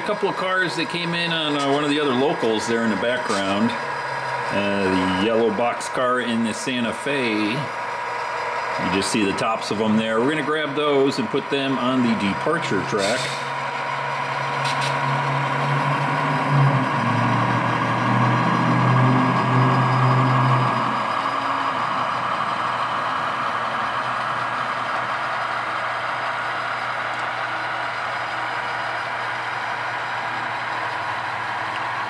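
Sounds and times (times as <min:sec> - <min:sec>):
diesel locomotive engines running: 0:00.0 - 0:32.0.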